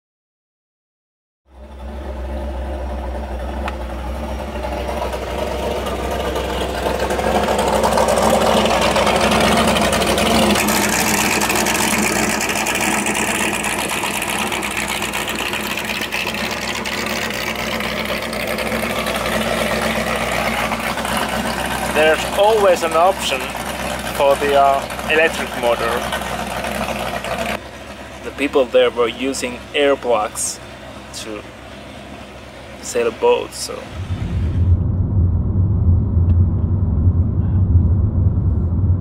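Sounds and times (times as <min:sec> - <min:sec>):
electric outboard motor humming: 0:01.5 - 0:34.5.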